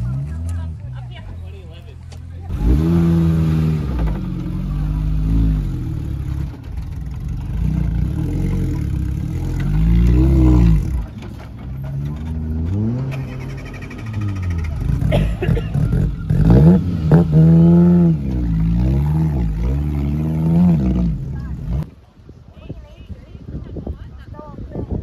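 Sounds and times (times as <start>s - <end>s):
off-road vehicle engine revving: 0.0s - 21.9s.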